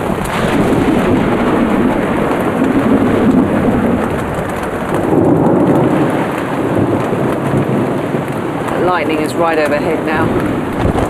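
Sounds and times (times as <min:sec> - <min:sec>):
rain pouring on a tent: 0:00.0 - 0:11.0
thunder rumbling: 0:00.0 - 0:11.0.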